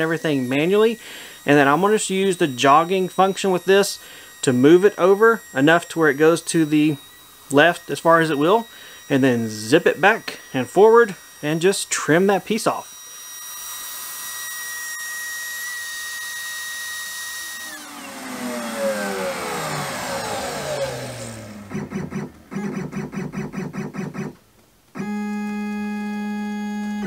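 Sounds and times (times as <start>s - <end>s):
router high whine: 0.0s - 27.0s
stepper motors buzzing: 0.0s - 27.0s.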